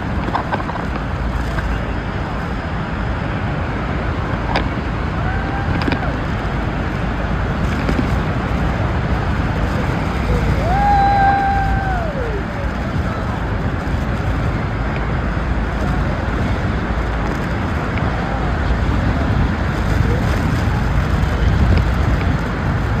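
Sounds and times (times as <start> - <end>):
wind and water rushing: 0.0 - 23.0
wind buffeting microphone: 0.0 - 23.0.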